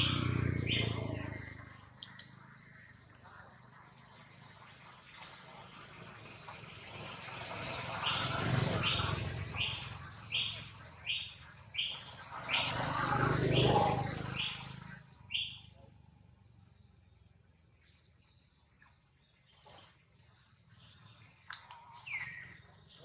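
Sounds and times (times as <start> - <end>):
faint insect hum: 0.0 - 23.0.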